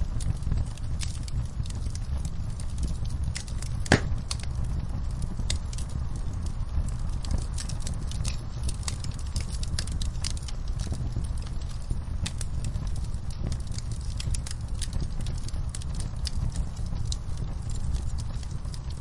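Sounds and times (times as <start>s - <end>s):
fire crackling: 0.0s - 19.0s
steady low rumble: 0.0s - 19.0s.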